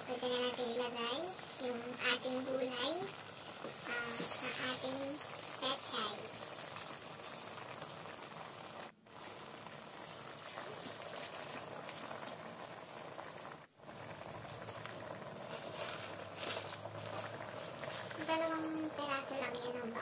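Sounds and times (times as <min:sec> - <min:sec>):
broth boiling in a pot: 0:00.0 - 0:20.0.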